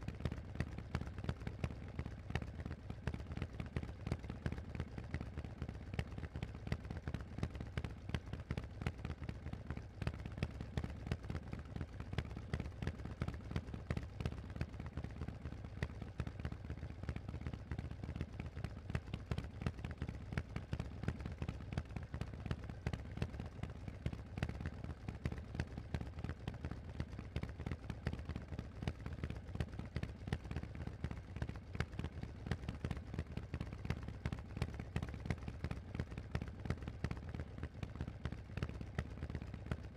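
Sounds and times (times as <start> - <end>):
motorcycle exhaust pulses: 0.1 - 39.9.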